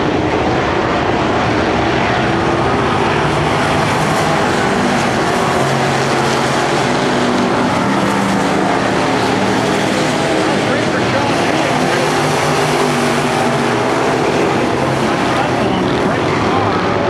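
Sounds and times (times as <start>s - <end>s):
race car engines running: 0.0s - 17.0s.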